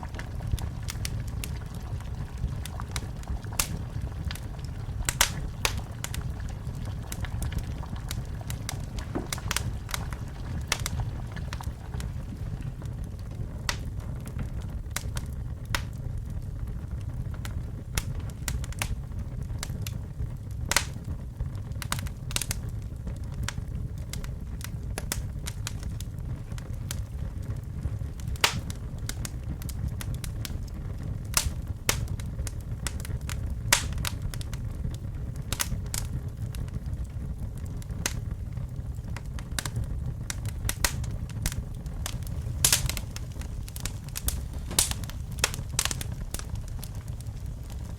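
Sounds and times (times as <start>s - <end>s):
fireplace fire crackling: 0.0s - 47.9s
low rumble of flames: 0.0s - 47.9s.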